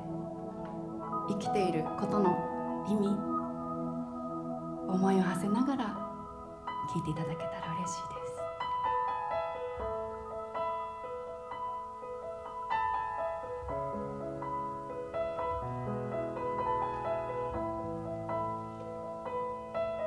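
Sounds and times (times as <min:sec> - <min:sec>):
keyboard melody of held notes: 0:00.0 - 0:20.0
low sustained keyboard chords: 0:00.0 - 0:20.0.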